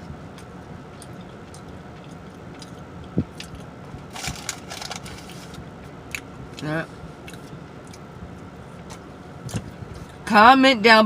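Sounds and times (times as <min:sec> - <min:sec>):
steady low hum: 0:00.0 - 0:11.0
chewing and crunching food: 0:00.3 - 0:10.2.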